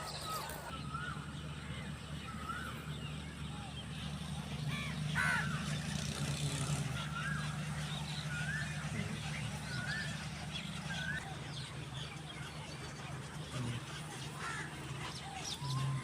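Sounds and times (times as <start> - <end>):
bird call rising and falling: 0.0 - 13.3
steady low hum: 0.0 - 16.0.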